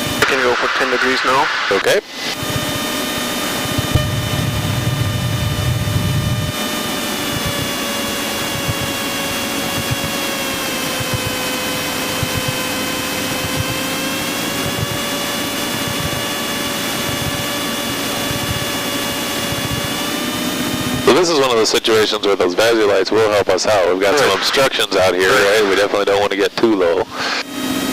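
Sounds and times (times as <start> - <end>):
airplane engine droning: 0.0 - 27.9
engine whine: 0.0 - 27.9.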